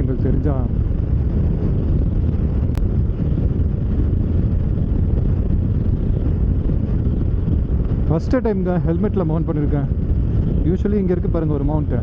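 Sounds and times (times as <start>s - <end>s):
motorcycle engine running: 0.0s - 10.8s
wind buffeting microphone: 0.0s - 12.0s.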